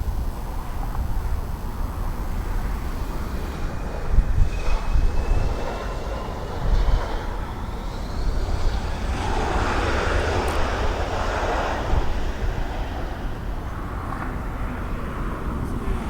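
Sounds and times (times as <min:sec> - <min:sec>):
jet engines roaring: 0:00.0 - 0:16.0
steady low rumble: 0:00.0 - 0:16.0.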